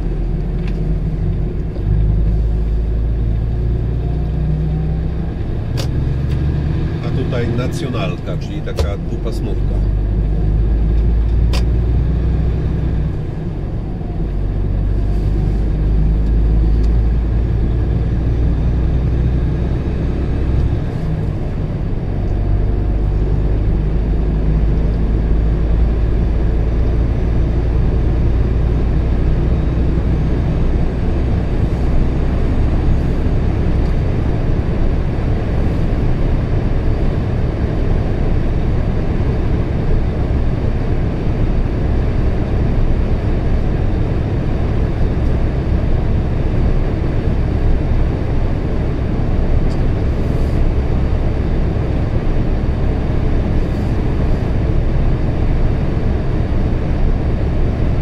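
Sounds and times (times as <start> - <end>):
vehicle engine and tyre rumble: 0.0 - 58.0.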